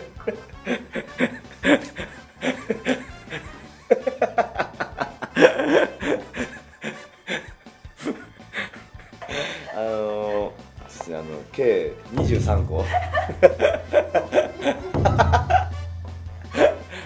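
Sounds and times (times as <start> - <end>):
man laughing: 0.0 - 10.6, 12.8 - 15.8, 16.4 - 17.0
background music: 0.0 - 17.0.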